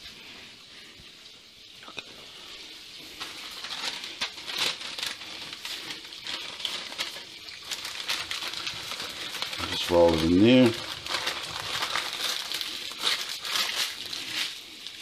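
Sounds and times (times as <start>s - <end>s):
baking paper rustling and crinkling: 2.9s - 15.0s.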